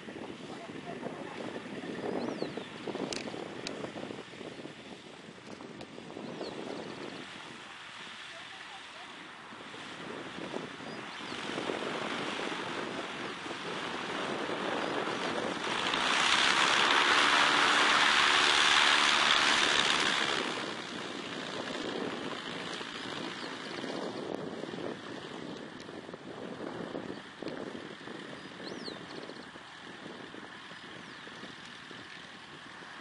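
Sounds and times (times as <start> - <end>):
distant propeller plane engine: 0.0 - 33.0
steady rushing noise: 0.0 - 33.0.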